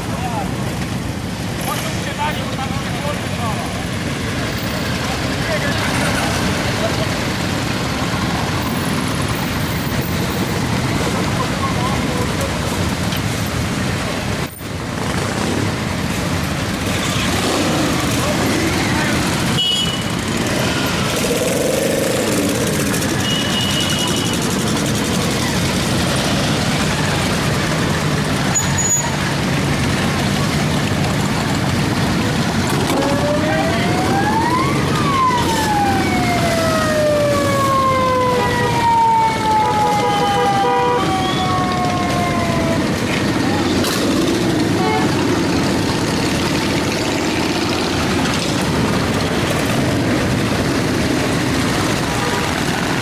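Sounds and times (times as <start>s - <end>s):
motorcycles riding past: 0.2s - 53.0s.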